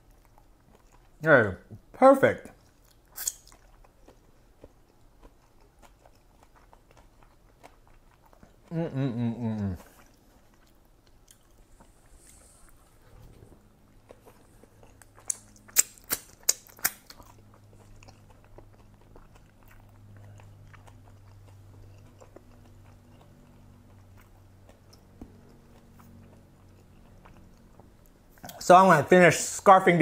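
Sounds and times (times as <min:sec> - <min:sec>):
person chewing food: 0:00.0 - 0:28.7.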